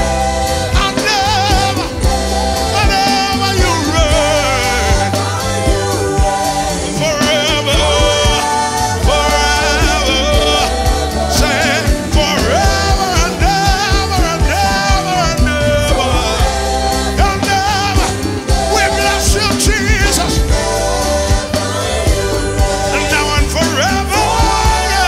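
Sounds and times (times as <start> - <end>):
gospel band playing: 0.0 - 25.0
singers holding long notes: 0.0 - 25.0.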